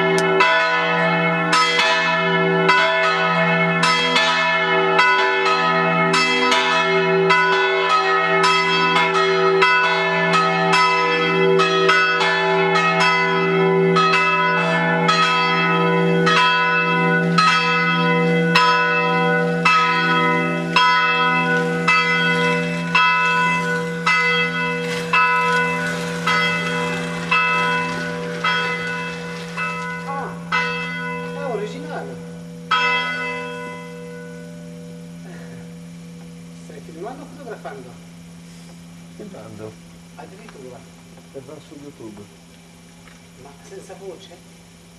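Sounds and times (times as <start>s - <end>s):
low bell hum: 0.0s - 41.1s
church bells ringing: 0.0s - 42.2s.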